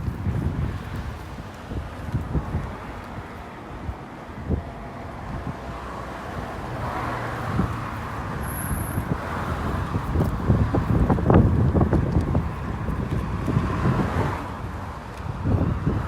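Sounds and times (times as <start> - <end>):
steady outdoor roar: 0.0 - 16.0
wind buffeting microphone: 0.0 - 16.0.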